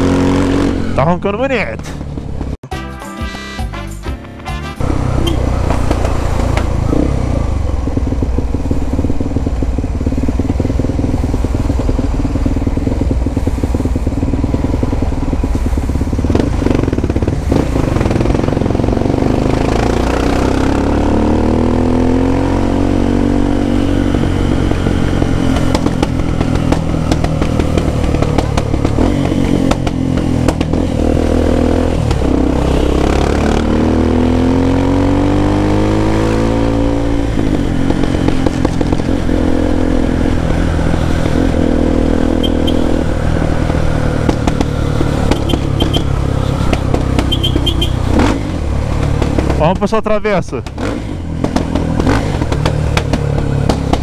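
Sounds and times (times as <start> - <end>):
single-cylinder motorcycle engine: 4.8 - 54.0.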